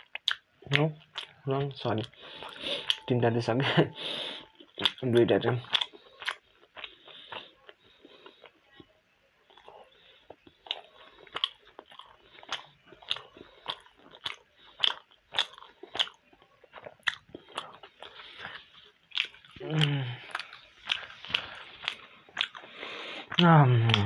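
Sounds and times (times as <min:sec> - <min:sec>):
wet chewing of dumplings: 0:00.0 - 0:24.0.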